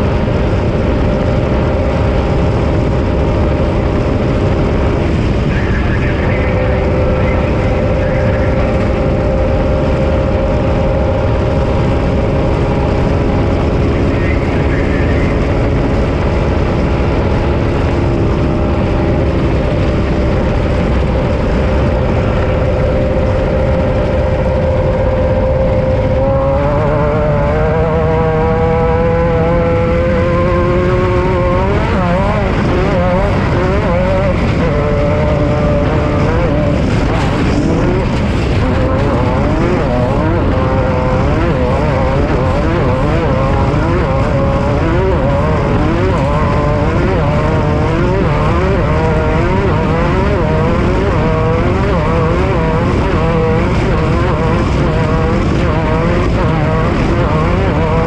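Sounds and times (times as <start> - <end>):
off-road vehicle engine running hard: 0.0 - 58.0.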